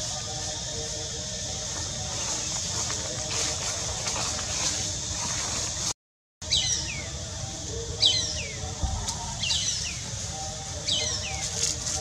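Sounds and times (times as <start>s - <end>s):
faint music: 0.0s - 12.0s.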